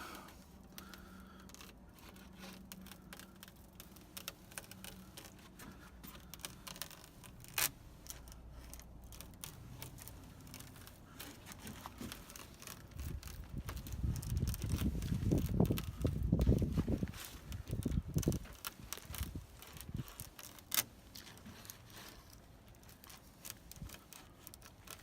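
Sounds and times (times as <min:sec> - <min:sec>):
screen mesh clicks and crinkles: 0:00.4 - 0:25.0.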